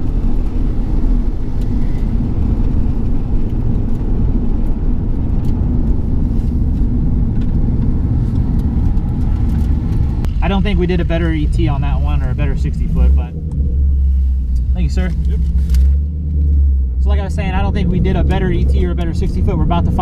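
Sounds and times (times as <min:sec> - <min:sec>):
low exhaust drone: 0:00.0 - 0:20.0
road noise: 0:00.0 - 0:20.0.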